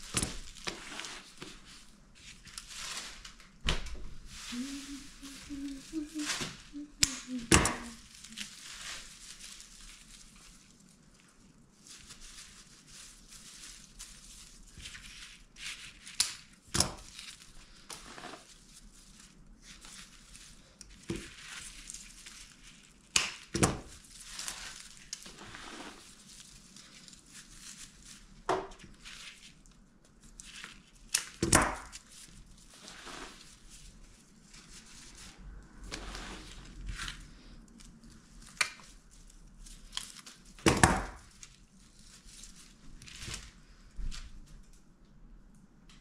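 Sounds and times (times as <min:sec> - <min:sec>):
rustling craft materials: 0:00.0 - 0:45.8.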